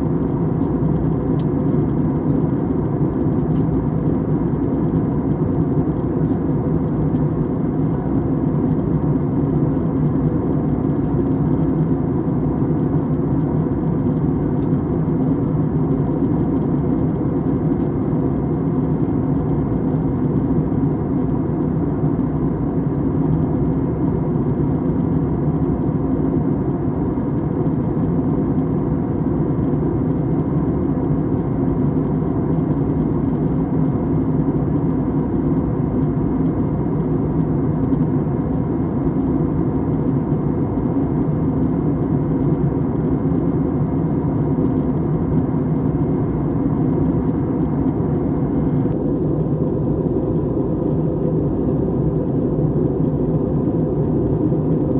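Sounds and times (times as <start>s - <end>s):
airliner cabin drone: 0.0s - 54.9s.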